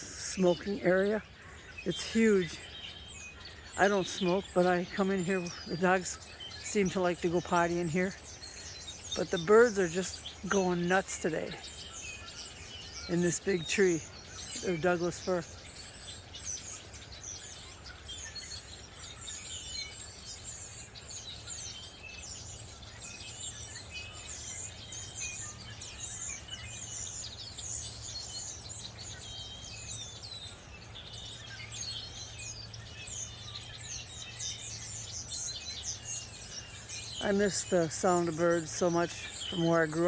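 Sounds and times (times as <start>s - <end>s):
songbirds chirping and trilling: 0.0s - 40.0s.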